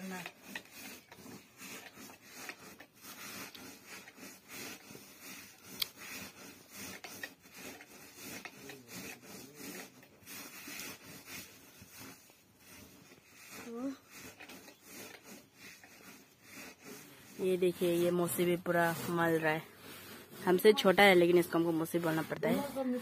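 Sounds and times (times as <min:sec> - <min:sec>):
hands rubbing dry rice: 0:00.0 - 0:23.0.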